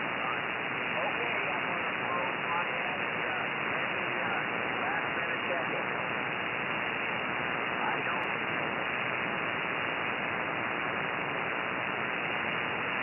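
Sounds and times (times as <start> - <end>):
shortwave radio band noise hiss: 0.0 - 13.0.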